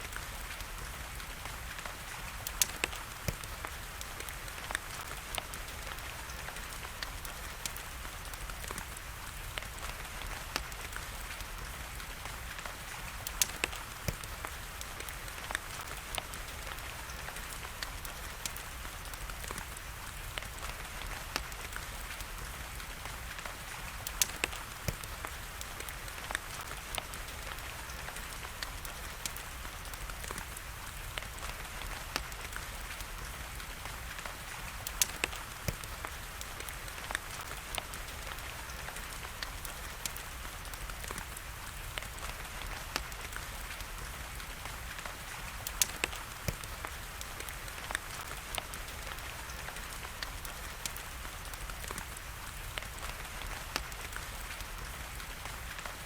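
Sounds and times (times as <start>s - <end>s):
steady rain hiss: 0.0s - 56.0s
wood fire crackling and popping: 0.0s - 56.0s.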